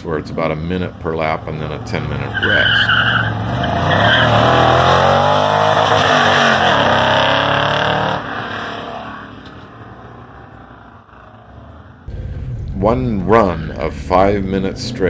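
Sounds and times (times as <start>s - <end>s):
car engine accelerating hard: 0.5s - 15.0s.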